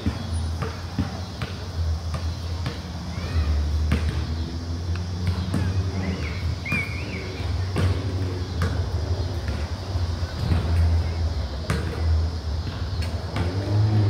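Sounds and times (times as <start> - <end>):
basketball bouncing on concrete: 0.0 - 2.8, 3.8 - 4.4, 5.1 - 13.7.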